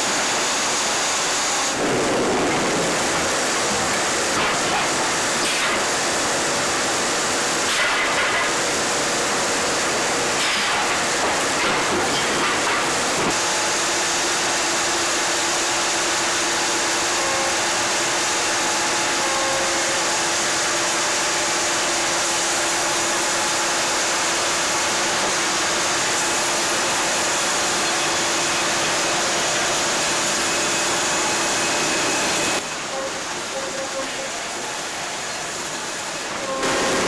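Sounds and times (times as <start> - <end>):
constant machine hum: 0.0 - 37.0.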